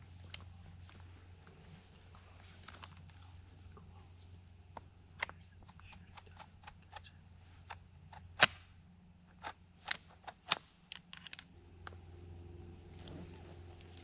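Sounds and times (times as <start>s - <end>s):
faint steady drone: 0.0s - 14.0s.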